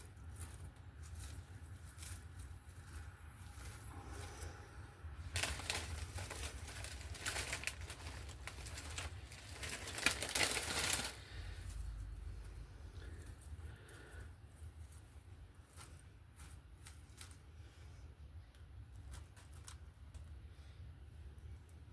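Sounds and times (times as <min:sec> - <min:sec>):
dry moss crackly rustling: 0:00.0 - 0:21.9.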